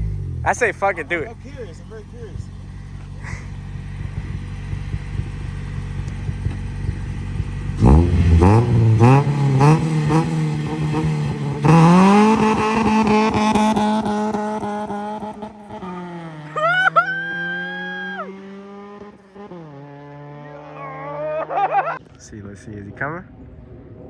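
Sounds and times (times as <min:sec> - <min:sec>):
car exhaust revving: 0:00.0 - 0:22.0.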